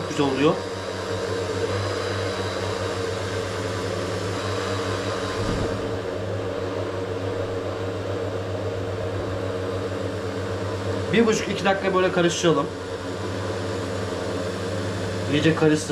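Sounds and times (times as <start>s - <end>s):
electric blender motor running: 0.0s - 15.9s.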